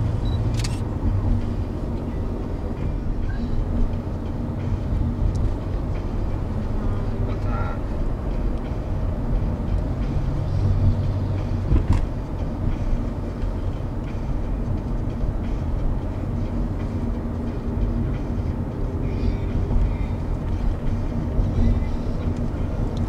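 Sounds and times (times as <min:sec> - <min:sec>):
road vehicle rumbling: 0:00.0 - 0:23.0.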